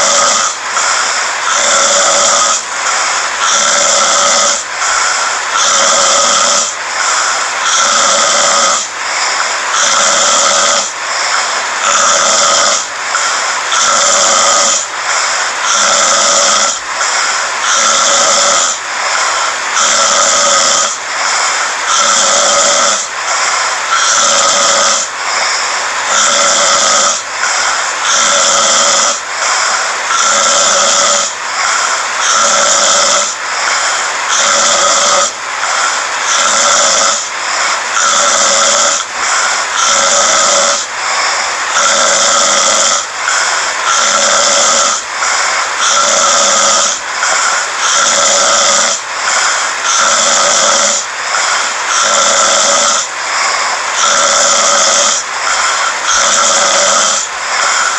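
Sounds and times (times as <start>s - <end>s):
person snoring: 0.0s - 57.9s.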